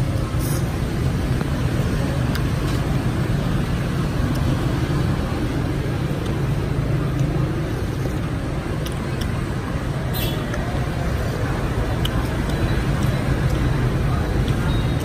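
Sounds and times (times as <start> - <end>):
street traffic drone: 0.0 - 15.0.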